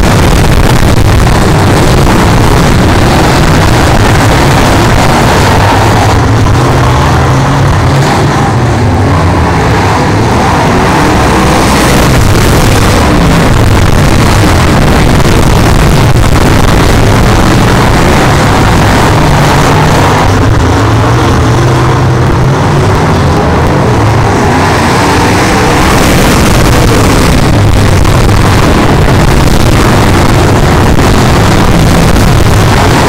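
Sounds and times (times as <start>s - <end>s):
race car engines running hard: 0.0s - 33.0s.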